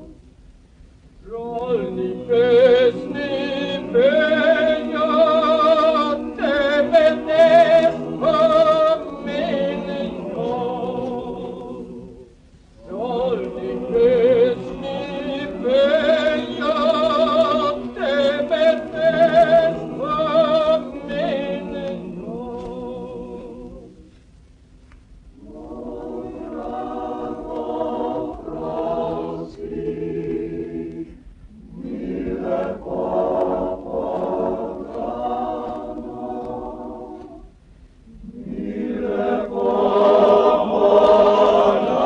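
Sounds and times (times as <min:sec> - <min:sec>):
male chorus singing: 0:01.3 - 0:23.9, 0:25.4 - 0:37.5, 0:38.1 - 0:42.0.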